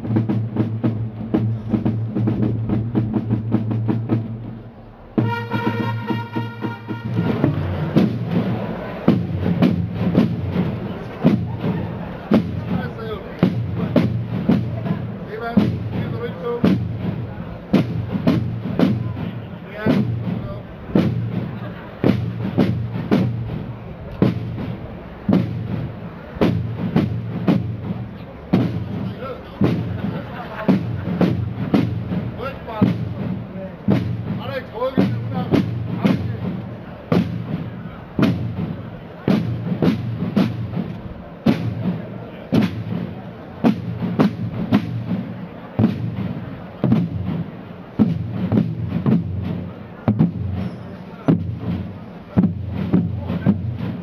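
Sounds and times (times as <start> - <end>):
marching drums beating: 0.0 - 54.0.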